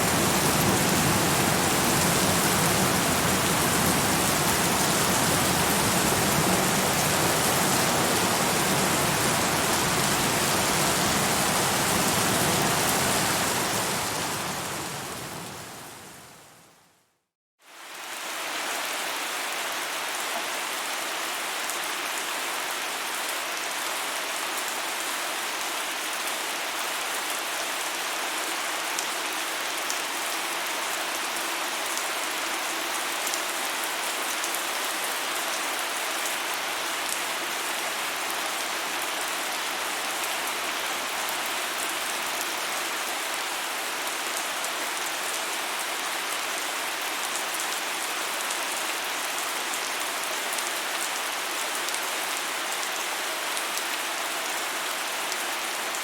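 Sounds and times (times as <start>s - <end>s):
steady rain falling: 0.0s - 16.8s, 17.6s - 56.0s.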